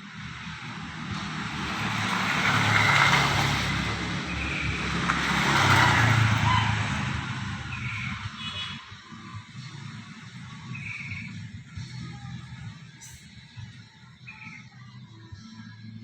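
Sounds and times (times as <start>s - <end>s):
vehicles passing by: 0.0s - 16.0s.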